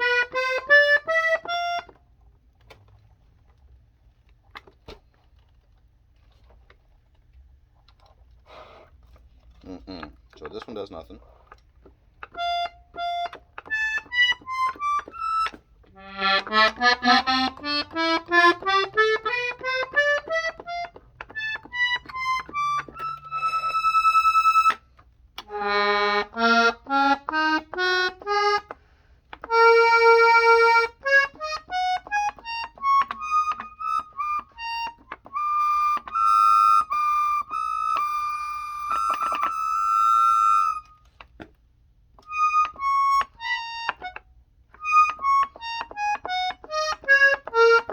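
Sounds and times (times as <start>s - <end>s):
accordion notes: 0.0s - 2.0s, 9.5s - 41.6s, 42.2s - 47.9s.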